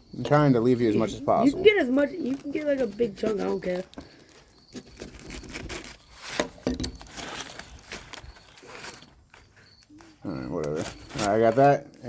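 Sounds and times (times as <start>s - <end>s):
burger wrapper rustling: 0.9s - 12.0s.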